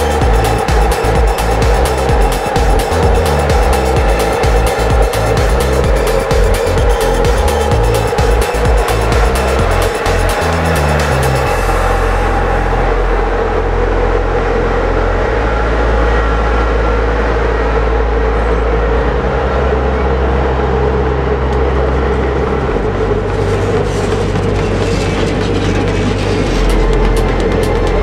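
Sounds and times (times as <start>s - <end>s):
train coaches rolling rumble: 0.0s - 28.0s.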